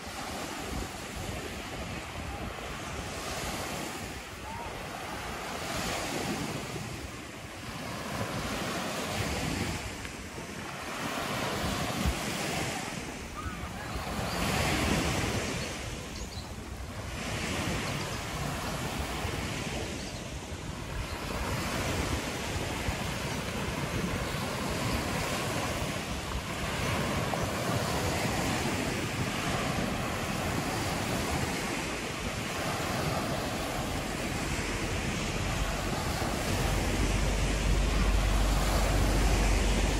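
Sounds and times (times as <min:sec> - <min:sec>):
waves washing on pebble beach: 0:00.0 - 0:39.9
wind buffeting microphone: 0:00.0 - 0:39.9.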